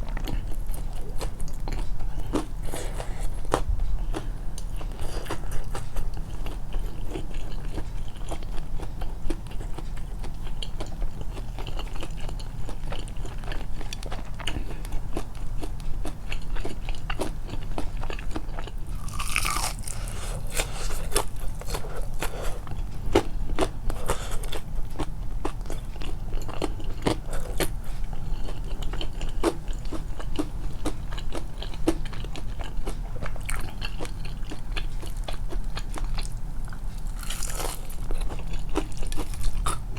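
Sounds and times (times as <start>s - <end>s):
chewing fried chicken: 0.0s - 39.9s.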